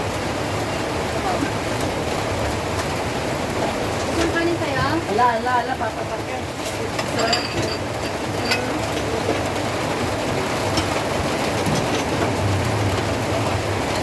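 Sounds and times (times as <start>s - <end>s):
steady rain pouring: 0.0s - 14.0s.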